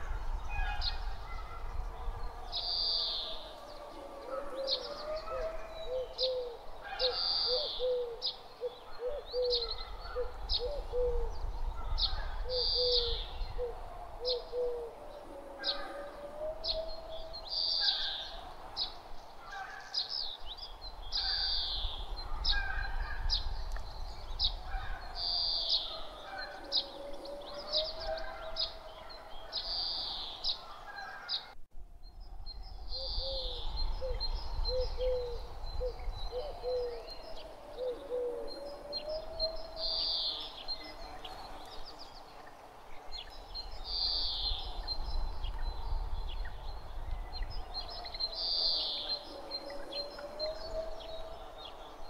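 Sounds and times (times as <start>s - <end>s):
birds chirping and calling: 0.0s - 52.0s.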